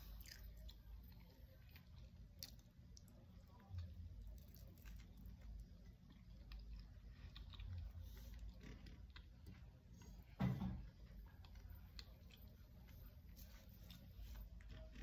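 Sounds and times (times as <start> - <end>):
faint chewing with mouth clicks: 0.0 - 15.0.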